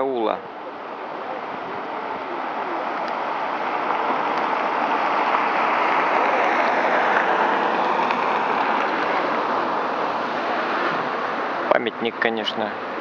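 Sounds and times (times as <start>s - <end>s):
passing car tyre hiss: 1.5s - 12.9s.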